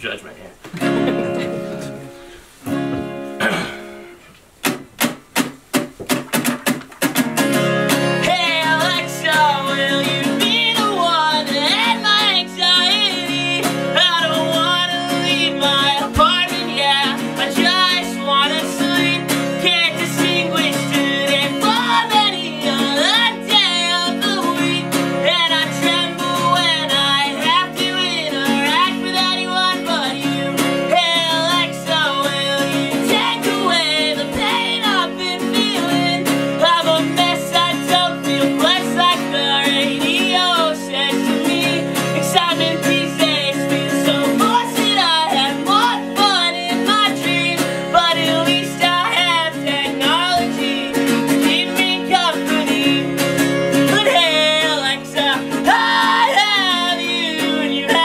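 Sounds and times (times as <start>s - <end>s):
acoustic guitar strumming: 0.6s - 58.0s
man singing: 8.2s - 58.0s.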